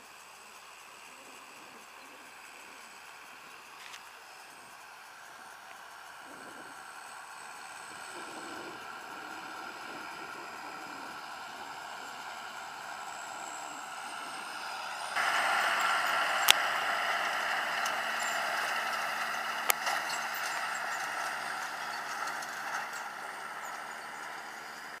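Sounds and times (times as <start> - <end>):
tractor running: 0.0 - 25.0.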